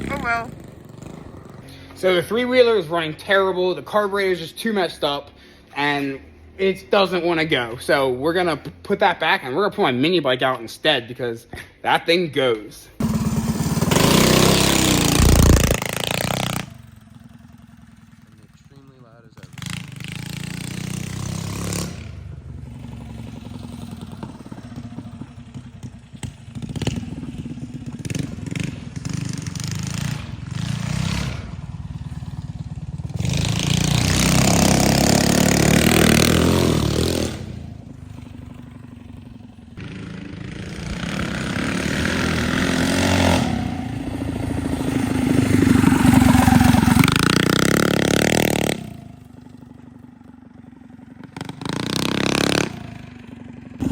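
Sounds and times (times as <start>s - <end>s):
mini bike engine revving: 0.0s - 4.4s, 13.0s - 53.9s.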